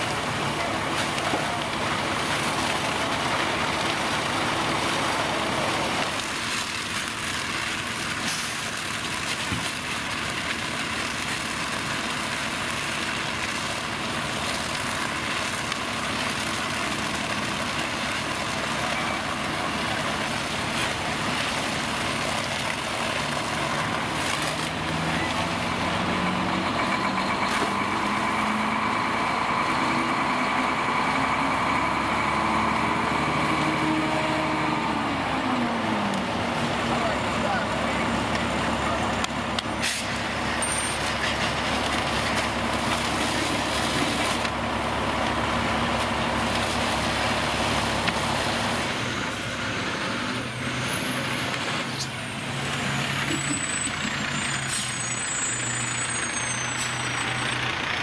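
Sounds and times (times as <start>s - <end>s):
fire engine pump running: 0.0s - 58.0s.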